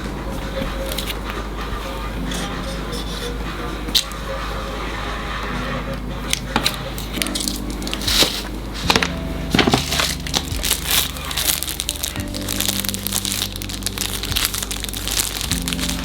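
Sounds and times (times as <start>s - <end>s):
background music: 0.0s - 16.0s
crinkling handling noise: 0.0s - 16.0s.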